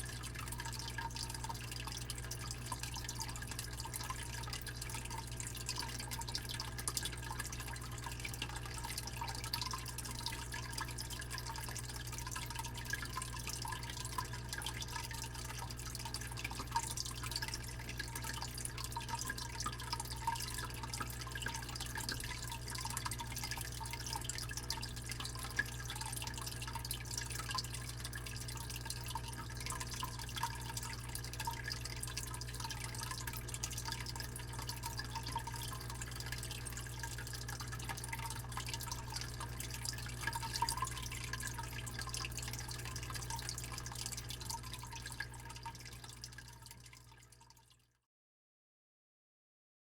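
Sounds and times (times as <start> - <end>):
fish tank pump humming: 0.0 - 47.0
water drips and splashes: 0.0 - 47.9
water trickling and bubbling: 0.0 - 47.9.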